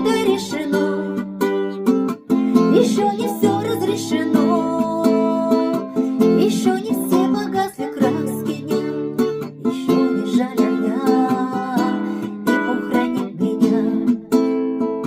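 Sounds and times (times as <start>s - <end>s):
guitar strumming: 0.0s - 15.0s.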